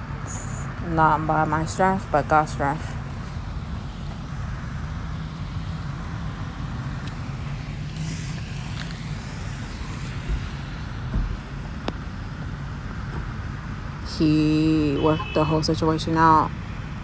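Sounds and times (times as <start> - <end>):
constant low hum: 0.0 - 17.0
low rumble of vehicle noise: 0.0 - 17.0.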